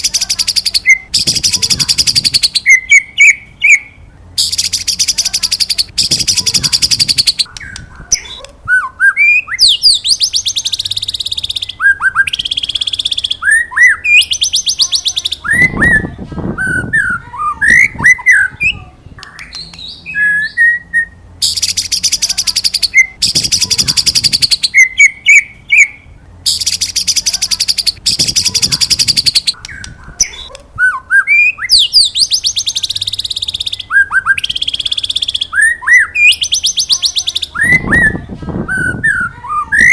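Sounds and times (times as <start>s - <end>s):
bird whistling and trilling: 0.0s - 39.9s.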